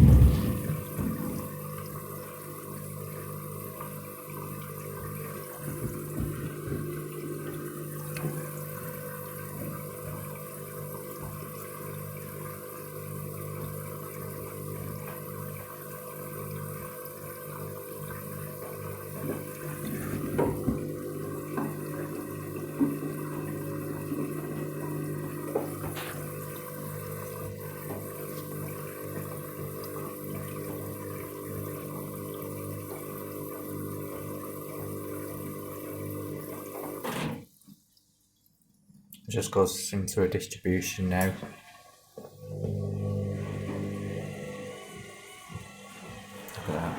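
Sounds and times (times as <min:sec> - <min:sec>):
water rushing through machine: 0:00.0 - 0:37.4, 0:41.1 - 0:46.9
washing machine low hum: 0:00.0 - 0:37.6, 0:41.3 - 0:46.9.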